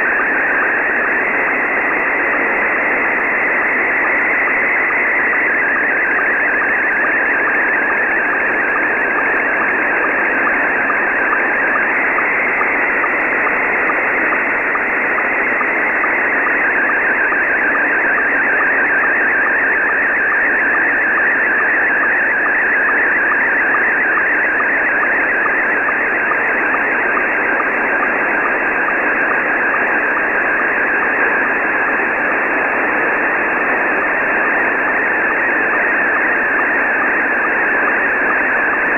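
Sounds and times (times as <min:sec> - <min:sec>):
warbling radio picture signal: 0:00.0 - 0:38.9.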